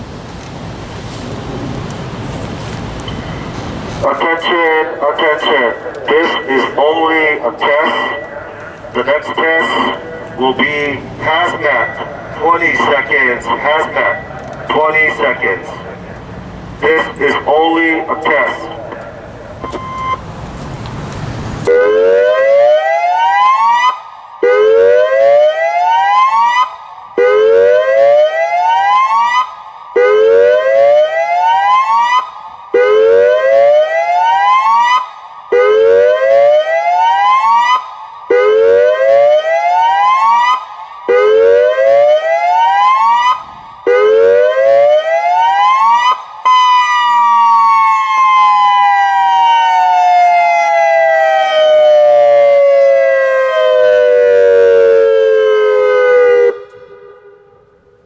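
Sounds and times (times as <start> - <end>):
long falling siren tone: 2.9 - 20.3, 21.6 - 58.0
rising siren whoops: 2.9 - 20.3, 21.6 - 57.4.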